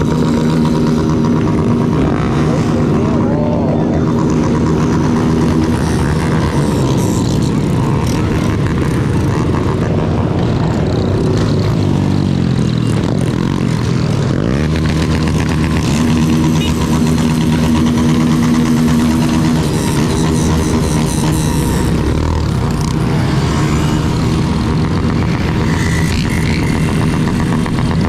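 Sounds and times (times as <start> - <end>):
motorcycle engine running: 0.0 - 28.0
other motorcycle engines: 0.0 - 28.0.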